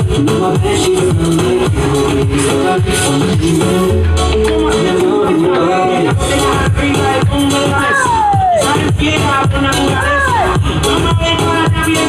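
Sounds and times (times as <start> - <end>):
dance music with steady beat: 0.0 - 12.0.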